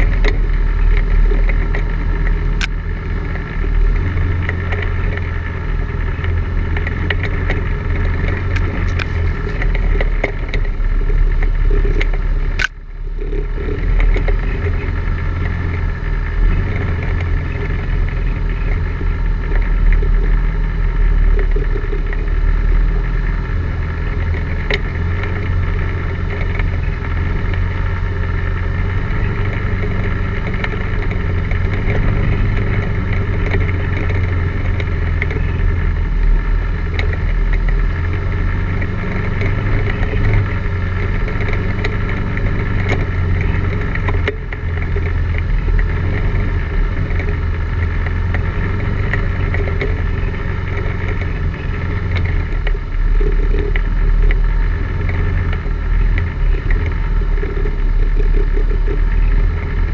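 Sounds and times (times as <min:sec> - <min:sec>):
atv engine running: 0:00.0 - 0:59.9
sharp clicks and knocks: 0:00.0 - 0:59.9.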